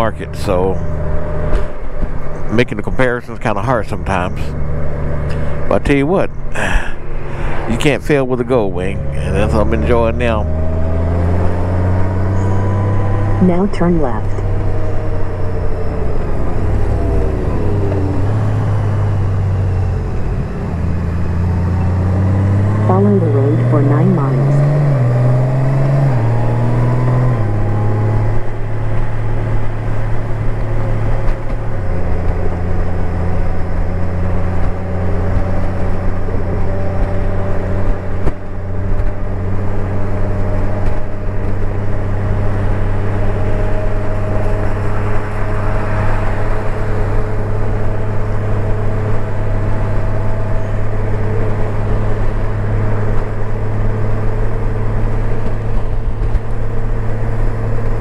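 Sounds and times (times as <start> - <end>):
wind and road noise: 0.0 - 58.0
motorcycle engine shifting gears: 8.6 - 58.0.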